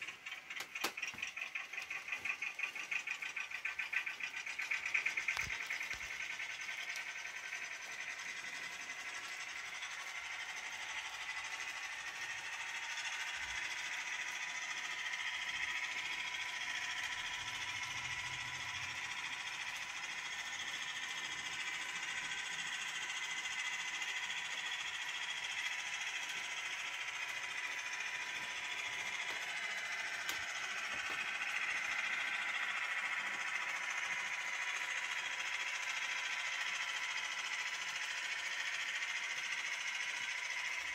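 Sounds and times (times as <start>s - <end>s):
model train motor whirr: 0.0s - 40.9s
wagons running on track: 0.0s - 40.9s.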